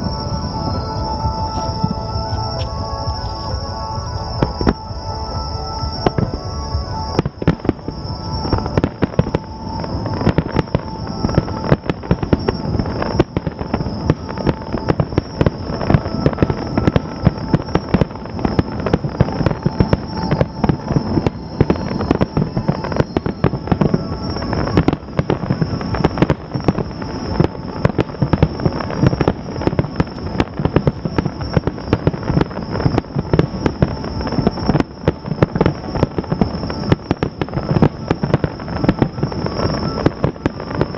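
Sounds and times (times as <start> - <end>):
fireworks bangs: 0.0 - 40.9.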